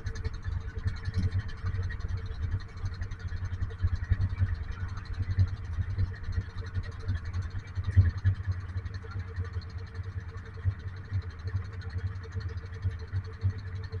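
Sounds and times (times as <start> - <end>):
boat engine throbbing: 0.0 - 14.0
faint steady whine: 0.0 - 14.0.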